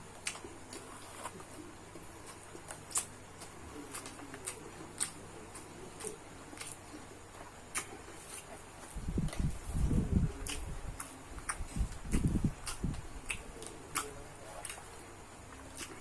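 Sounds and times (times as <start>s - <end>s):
chewing food: 0.0s - 16.0s.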